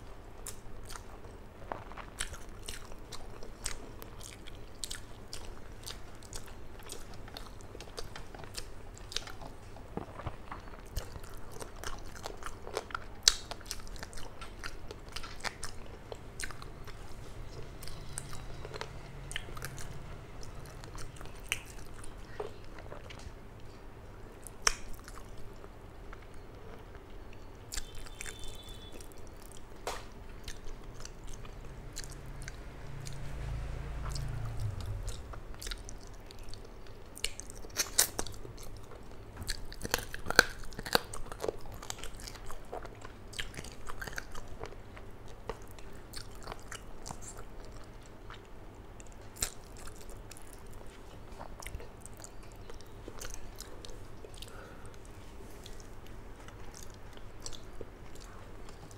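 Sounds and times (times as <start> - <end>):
close chewing of food: 0.0 - 58.9.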